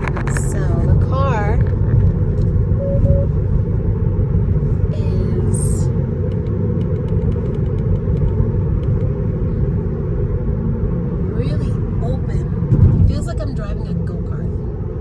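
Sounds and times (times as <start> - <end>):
road and tyre rumble in car cabin: 0.0 - 15.0.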